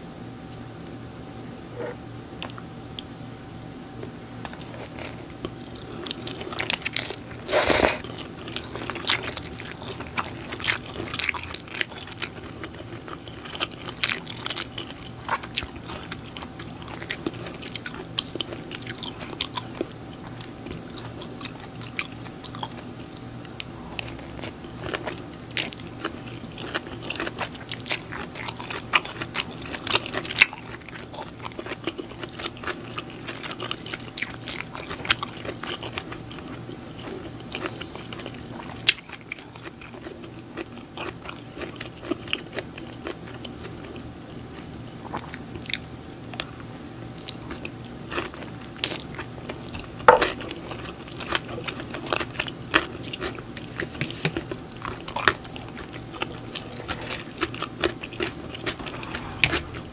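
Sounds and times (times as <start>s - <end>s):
wet chewing and lip-smacking: 4.4s - 46.6s, 47.2s - 59.9s.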